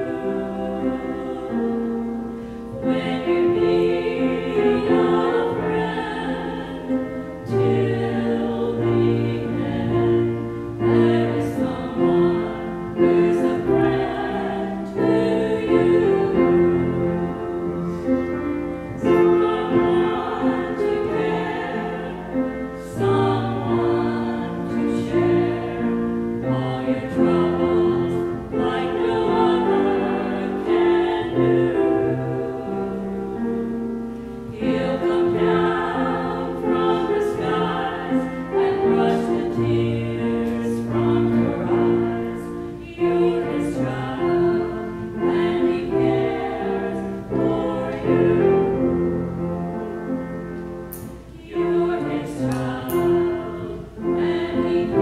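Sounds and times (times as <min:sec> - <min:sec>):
women singing together: 0:00.0 - 0:50.2, 0:50.9 - 0:55.0
piano accompaniment: 0:00.0 - 0:55.0.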